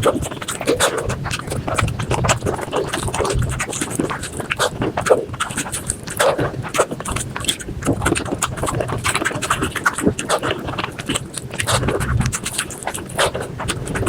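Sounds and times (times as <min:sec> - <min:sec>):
sped-up chewing and crunching: 0:00.0 - 0:14.0.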